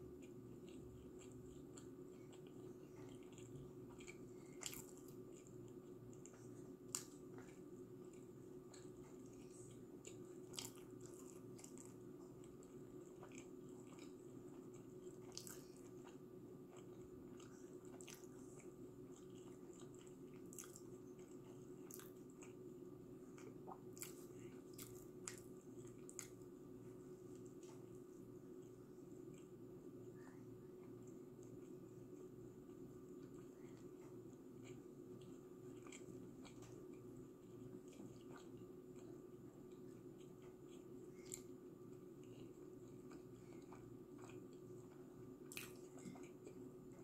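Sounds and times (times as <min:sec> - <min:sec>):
chewing crunchy crust: 0:00.0 - 0:47.0
faint low hum: 0:00.0 - 0:47.0.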